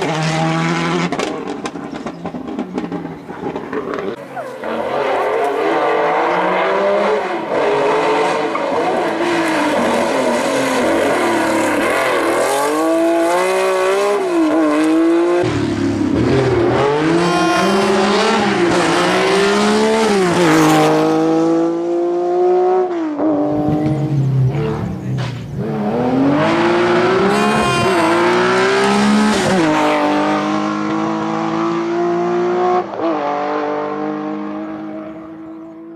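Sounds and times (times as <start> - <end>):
rally car engines revving: 0.0 - 35.9.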